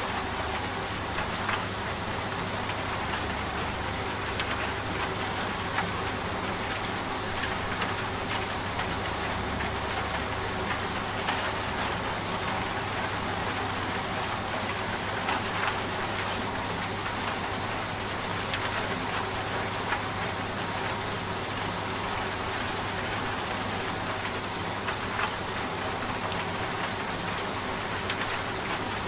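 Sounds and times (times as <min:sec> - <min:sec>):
raindrops ticking on a surface: 0:00.0 - 0:29.0
steady rain falling: 0:00.0 - 0:29.0
washing machine humming: 0:00.0 - 0:29.0.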